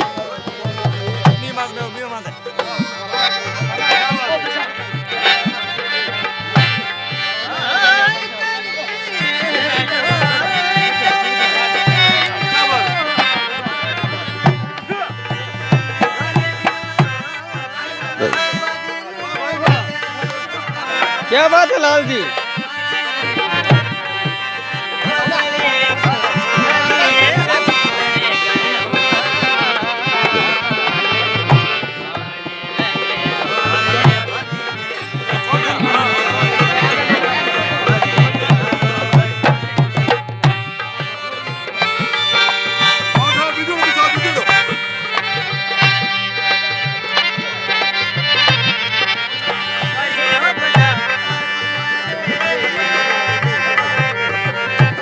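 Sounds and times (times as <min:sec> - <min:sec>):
folk melody: 0:00.0 - 0:55.0
hand drum rhythm: 0:00.0 - 0:55.0.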